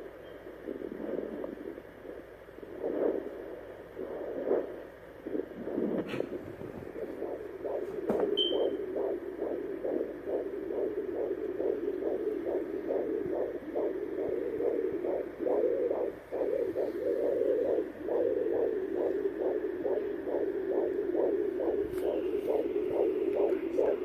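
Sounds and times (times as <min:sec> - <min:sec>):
fast heartbeat through speaker: 0:00.0 - 0:24.0.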